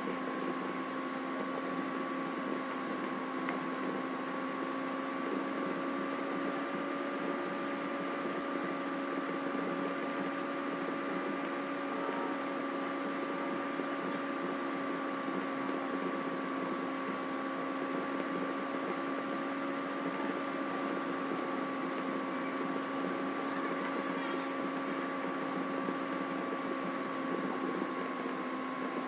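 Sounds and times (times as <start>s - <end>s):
electrical hum with hiss: 0.0s - 29.0s.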